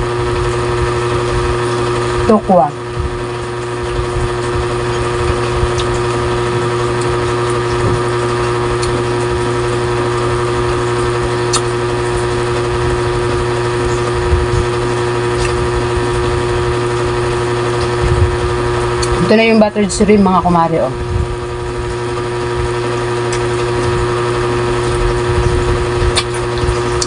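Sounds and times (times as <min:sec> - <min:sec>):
motor hum: 0:00.0 - 0:27.0.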